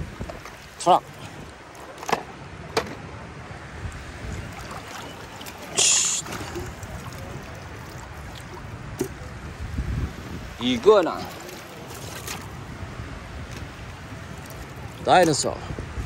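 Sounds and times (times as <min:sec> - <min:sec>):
sea water washing over sand: 0:00.0 - 0:02.6, 0:03.7 - 0:16.0
wind: 0:00.0 - 0:16.0.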